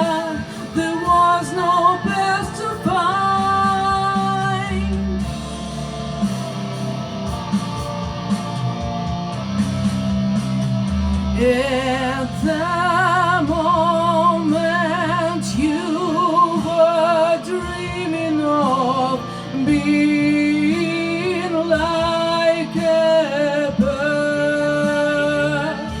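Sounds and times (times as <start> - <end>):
person singing wordless vocalise: 0.0 - 9.3, 11.4 - 26.0
instrumental backing: 0.0 - 26.0.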